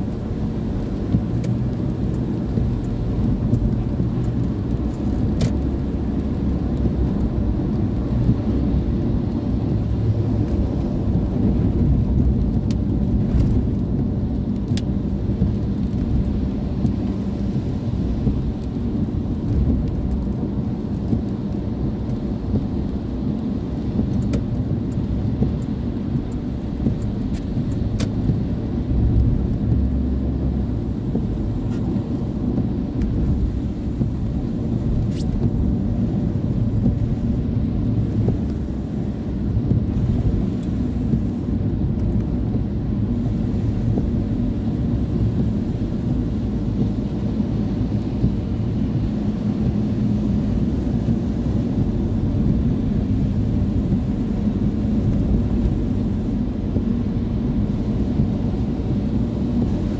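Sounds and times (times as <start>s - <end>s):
car engine rumble: 0.0s - 59.9s
tyres on wet road: 0.0s - 59.9s.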